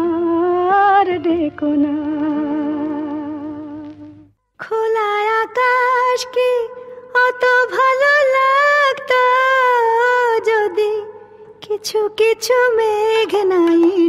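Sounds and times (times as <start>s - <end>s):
woman singing slow melody: 0.0s - 4.0s, 4.6s - 14.0s.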